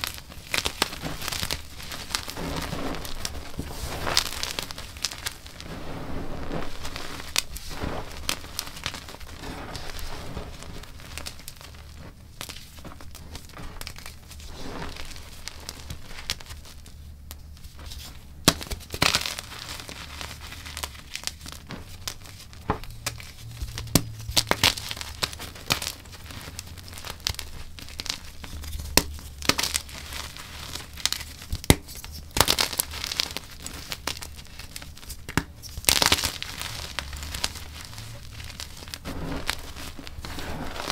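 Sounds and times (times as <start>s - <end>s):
chalk crunching in hands: 0.0s - 16.2s, 17.8s - 40.9s.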